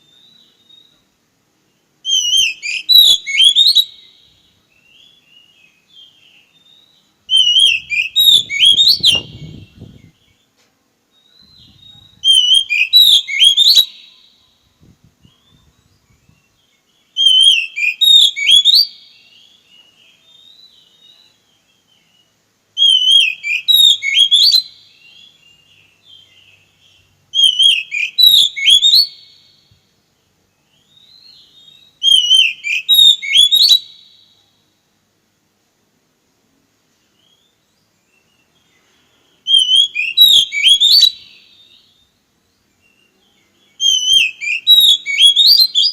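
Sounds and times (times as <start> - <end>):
songbird whistling: 0.0 - 1.1, 2.0 - 10.5, 11.1 - 14.6, 15.2 - 29.8, 30.6 - 34.5, 37.0 - 45.9.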